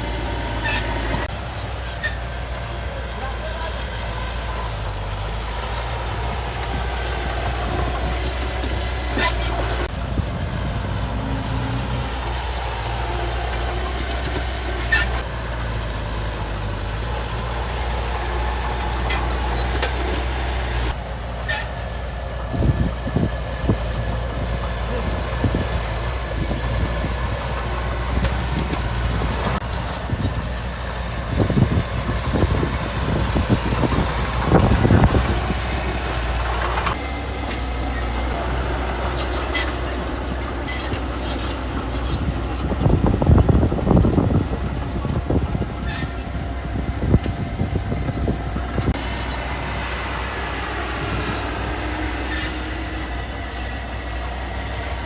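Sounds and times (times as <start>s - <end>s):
clattering and rumbling: 0.0s - 21.7s, 22.3s - 55.0s
diesel earthmoving machinery running: 0.0s - 55.0s.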